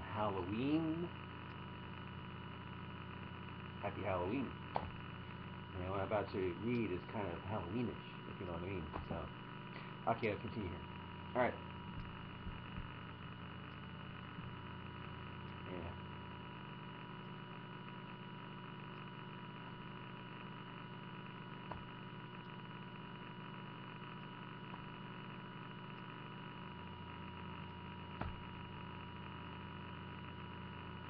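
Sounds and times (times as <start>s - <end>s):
electrical hum: 0.0s - 31.0s.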